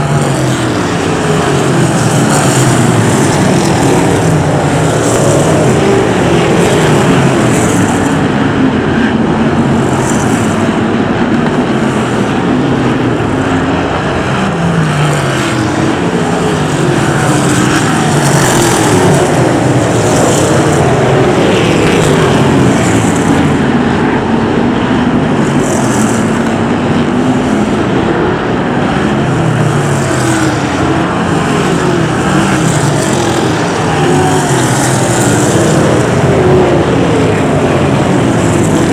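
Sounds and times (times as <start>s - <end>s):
stock car engines racing: 0.0s - 38.9s.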